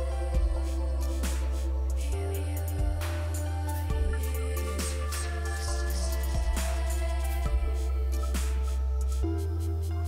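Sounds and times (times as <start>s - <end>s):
instrumental music with deep bass: 0.0s - 10.0s.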